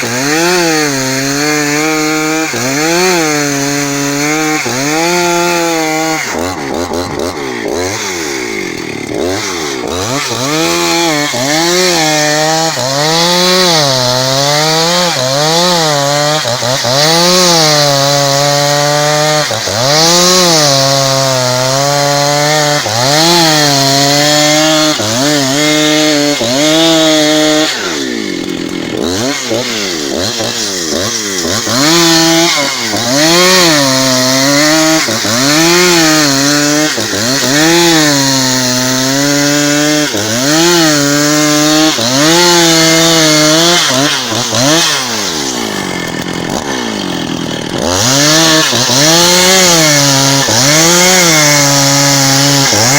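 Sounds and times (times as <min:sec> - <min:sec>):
chainsaw ripping a log: 0:00.0 - 0:52.9.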